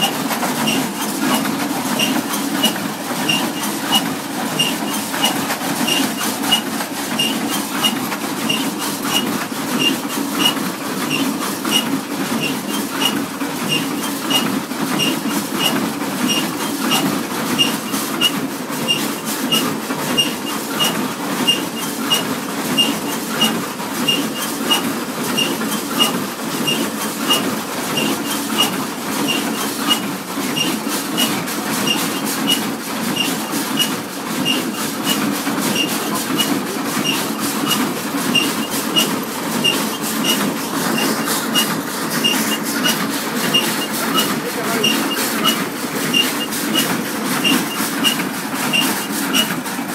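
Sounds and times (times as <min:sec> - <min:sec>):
hay baler clattering: 0:00.0 - 0:49.9.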